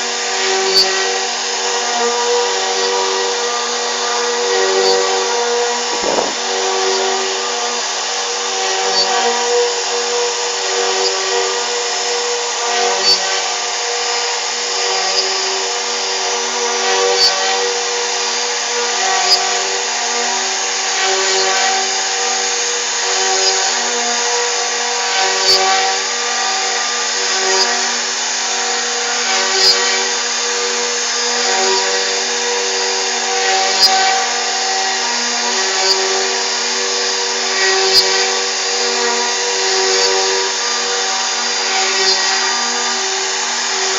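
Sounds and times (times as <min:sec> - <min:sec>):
router spindle running: 0:00.0 - 0:43.9.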